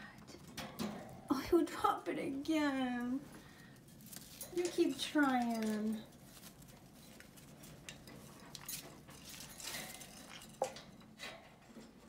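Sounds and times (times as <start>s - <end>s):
birds clicking and rustling in cage: 0.1s - 1.3s, 3.3s - 12.0s.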